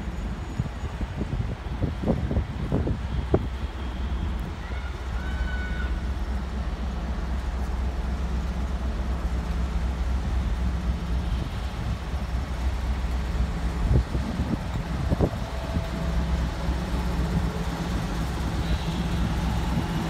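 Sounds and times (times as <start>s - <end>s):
diesel locomotive engine rumbling: 0.0s - 20.0s.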